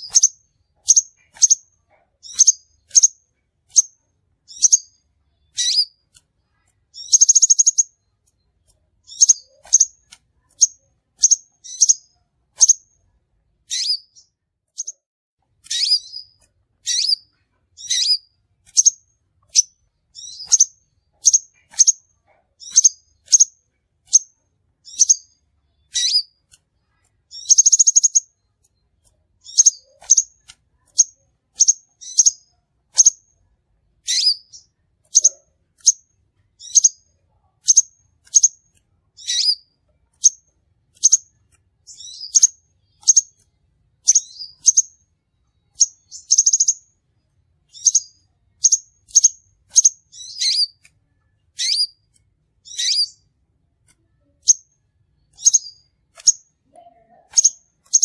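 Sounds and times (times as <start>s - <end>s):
buzzy bird trill: 0.0s - 8.2s, 9.0s - 12.9s, 13.6s - 15.0s, 15.6s - 28.6s, 29.4s - 33.3s, 34.0s - 45.0s, 45.7s - 46.9s, 47.7s - 50.9s, 51.5s - 53.3s, 54.2s - 58.0s
bird chirping: 0.0s - 58.0s.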